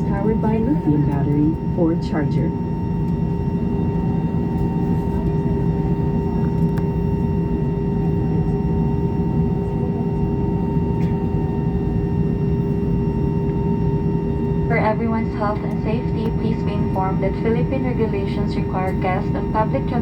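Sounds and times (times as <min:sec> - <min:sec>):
air conditioning hum: 0:00.0 - 0:07.2, 0:10.8 - 0:20.0
aircraft engines running: 0:00.0 - 0:20.0.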